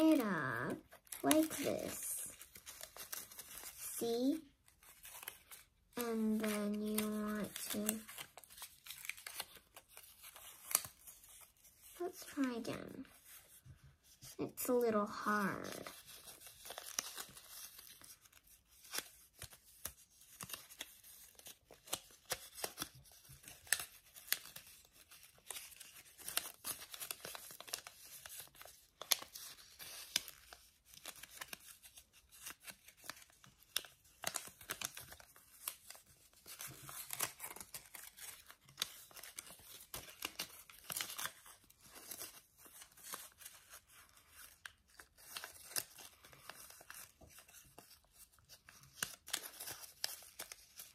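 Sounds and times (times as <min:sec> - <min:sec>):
paper rustling and crackling: 0:00.0 - 0:50.9.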